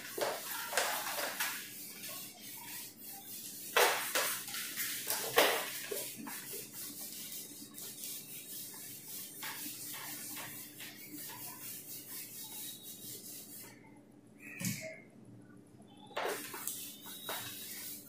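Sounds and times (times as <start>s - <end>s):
eraser scrubbing whiteboard: 0.0s - 13.8s, 16.2s - 18.0s.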